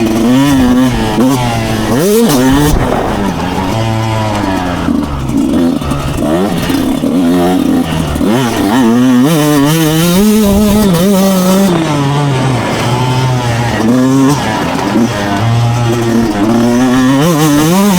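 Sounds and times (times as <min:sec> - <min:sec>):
two-stroke motocross engine revving: 0:00.0 - 0:17.9.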